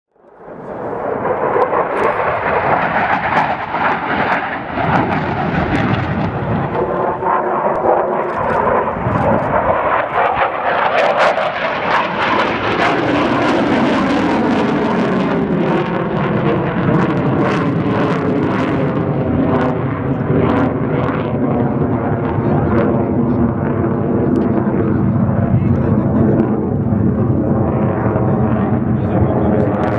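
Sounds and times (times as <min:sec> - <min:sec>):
fighter jet engine roaring: 0:00.2 - 0:29.9.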